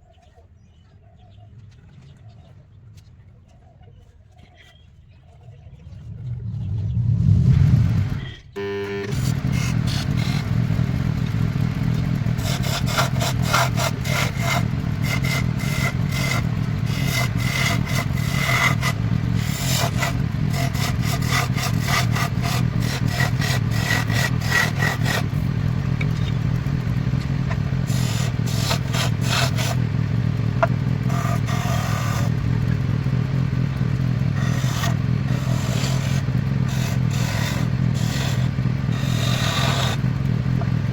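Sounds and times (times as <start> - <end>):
lathe motor running: 7.2 - 40.9
tool scraping spinning wood: 7.2 - 40.9.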